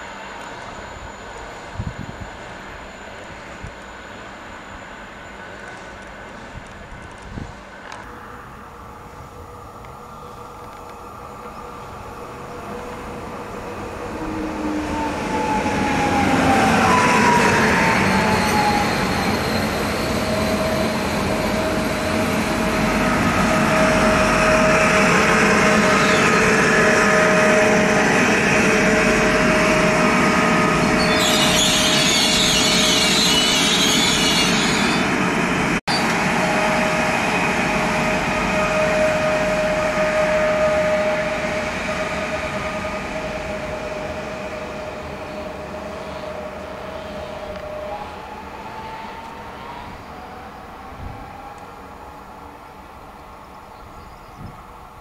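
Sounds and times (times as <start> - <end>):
electric train whine: 0.0 - 55.0
wheel and rail rumble: 5.4 - 54.6.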